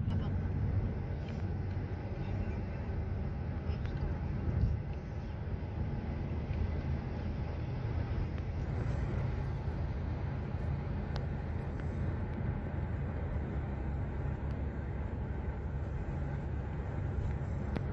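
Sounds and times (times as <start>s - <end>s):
car engine and tyres rumbling: 0.0s - 17.9s.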